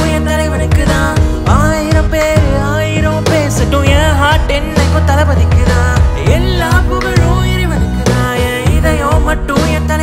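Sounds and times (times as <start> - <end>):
song with bass and gliding lead: 0.0 - 10.0.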